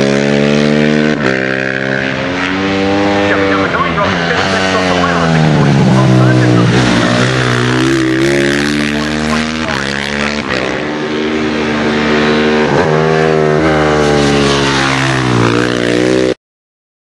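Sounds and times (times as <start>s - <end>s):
racing motorcycle engines accelerating: 0.0s - 16.4s.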